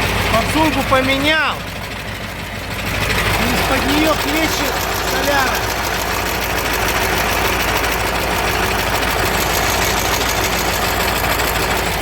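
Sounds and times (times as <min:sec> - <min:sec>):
diesel engine idling: 0:00.0 - 0:12.0
fuel gushing: 0:00.0 - 0:12.0.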